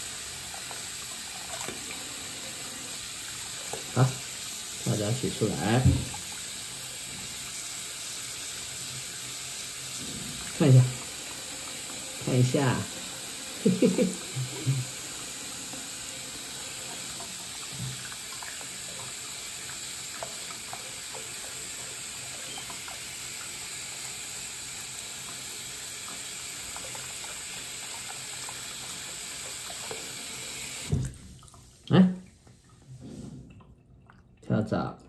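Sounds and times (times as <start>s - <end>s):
water running from faucet into sink: 0.0s - 32.9s.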